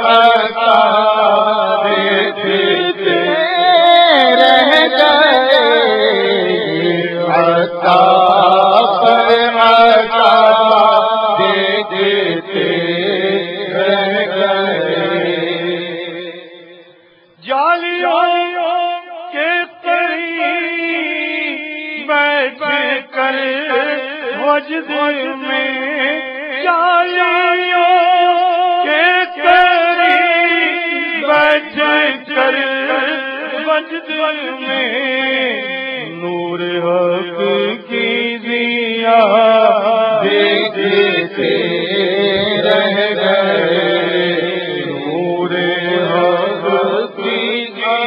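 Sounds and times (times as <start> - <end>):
person singing devotional song: 0.0 - 48.0.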